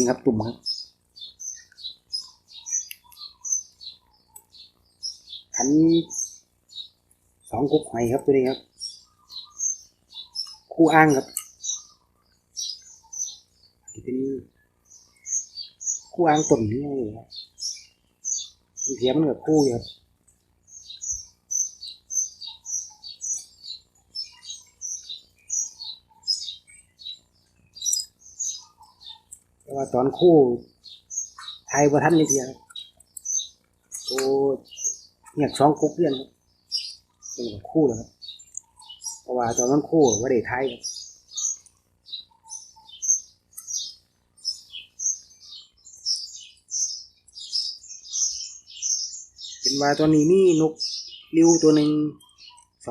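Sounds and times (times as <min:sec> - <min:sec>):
small bird chirping: 0:00.0 - 0:52.9.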